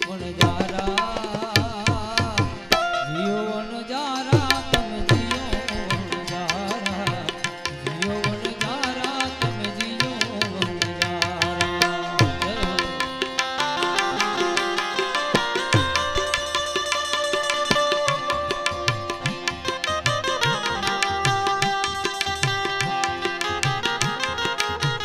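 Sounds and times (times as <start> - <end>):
harmonium holding notes: 0.0 - 25.0
tabla playing fast strokes: 0.0 - 25.0.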